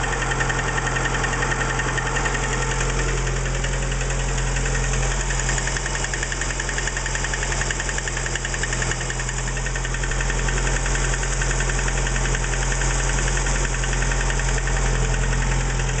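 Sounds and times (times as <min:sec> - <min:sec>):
car engine knocking: 0:00.0 - 0:16.0.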